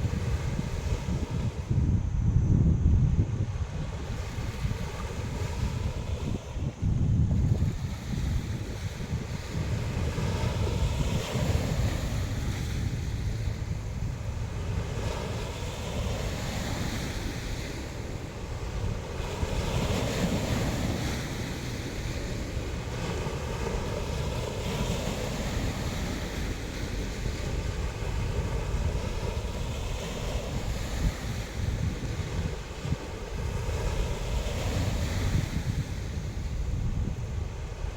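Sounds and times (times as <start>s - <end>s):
wind buffeting microphone: 0.0s - 37.9s
sea waves washing onto shore: 7.4s - 37.9s.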